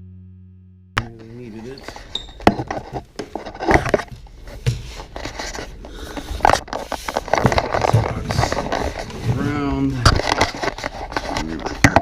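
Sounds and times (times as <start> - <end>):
handling knocks and scrapes: 1.0 - 12.0.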